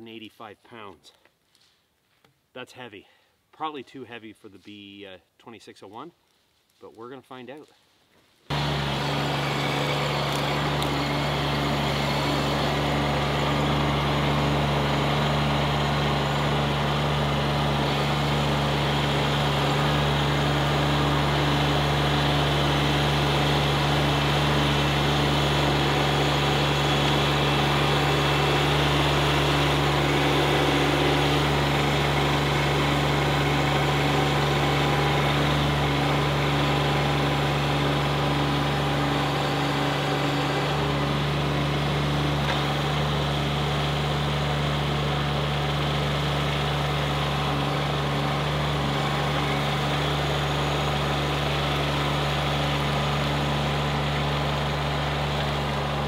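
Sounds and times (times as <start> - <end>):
tractor diesel engine running: 8.5 - 56.0.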